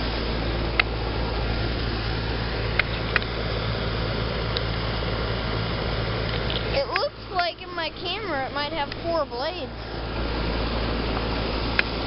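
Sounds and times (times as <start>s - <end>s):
condenser fan whooshing: 0.0s - 12.0s
low hum: 0.0s - 12.0s.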